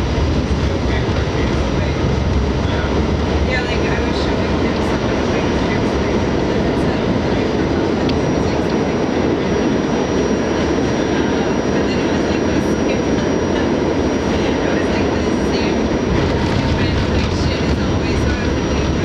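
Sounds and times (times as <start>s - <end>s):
subway car running through tunnel: 0.0s - 19.0s.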